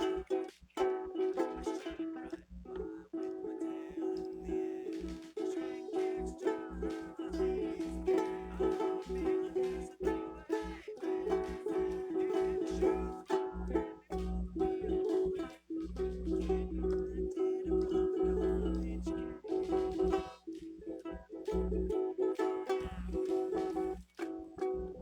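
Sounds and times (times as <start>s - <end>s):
acoustic string instrument strummed: 0.0s - 25.0s.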